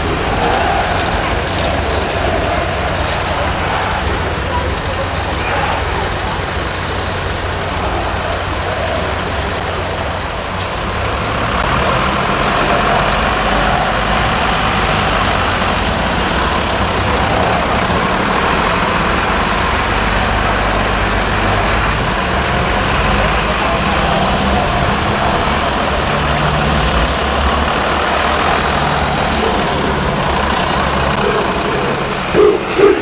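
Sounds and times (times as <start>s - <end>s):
trucks driving past: 0.0s - 33.0s.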